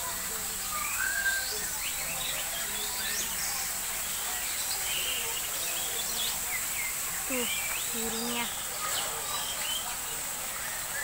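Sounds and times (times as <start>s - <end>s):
steady high hiss: 0.0s - 11.0s
birds chirping and whistling: 0.6s - 10.0s.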